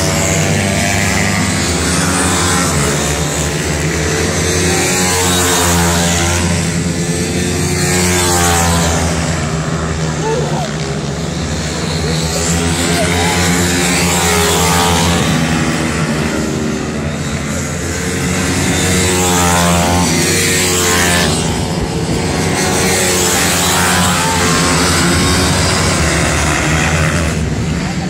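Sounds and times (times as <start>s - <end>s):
motorbike engines revving: 0.0s - 28.0s.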